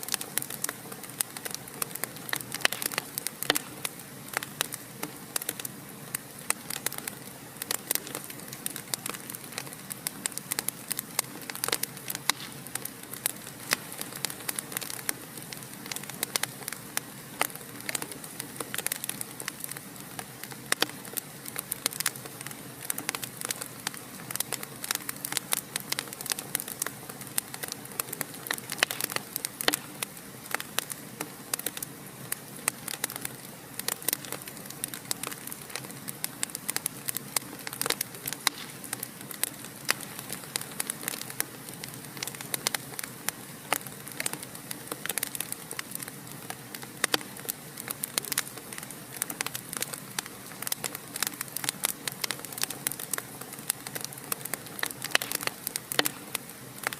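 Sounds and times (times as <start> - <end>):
fire crackling in a fireplace: 0.0 - 56.9.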